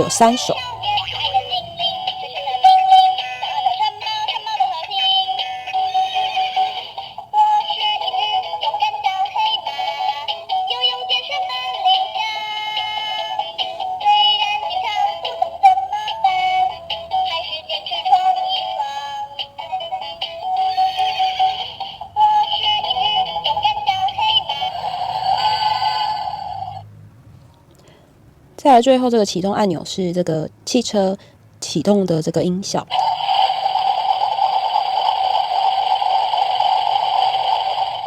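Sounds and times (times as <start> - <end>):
toy speaker children's song: 0.0 - 26.8, 32.9 - 38.0.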